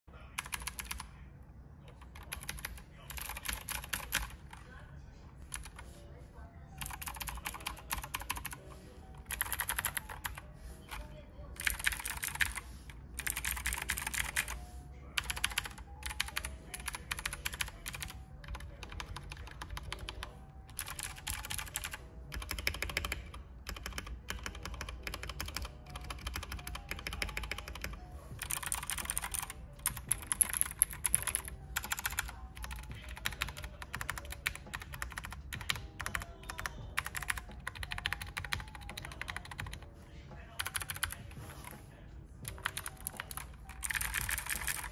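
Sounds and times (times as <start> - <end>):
clicky mechanical keyboard typing: 0.4 - 1.0, 2.0 - 4.6, 6.8 - 8.6, 9.2 - 11.0, 11.6 - 12.6, 13.2 - 14.6, 15.2 - 39.8, 40.6 - 41.7, 42.4 - 44.9.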